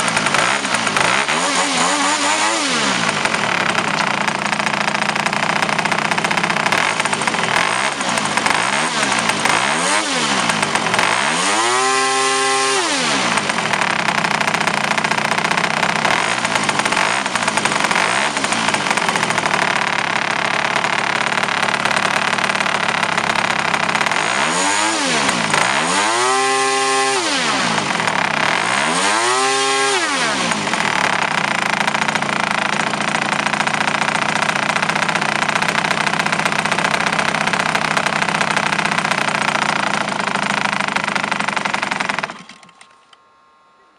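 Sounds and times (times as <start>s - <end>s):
model airplane engine: 0.0s - 43.9s.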